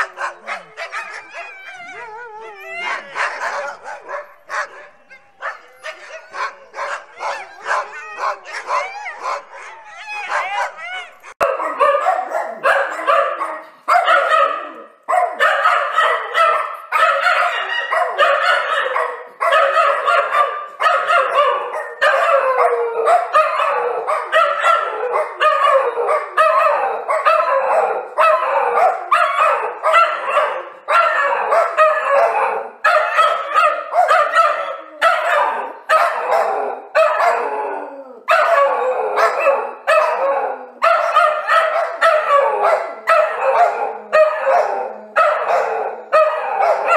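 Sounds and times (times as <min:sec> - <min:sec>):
dog barking angrily: 0:00.0 - 0:01.5, 0:02.8 - 0:46.9.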